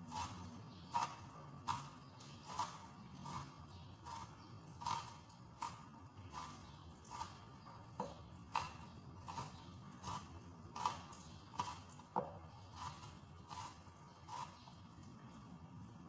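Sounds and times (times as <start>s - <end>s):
knife cutting onion on board: 0.0s - 14.6s.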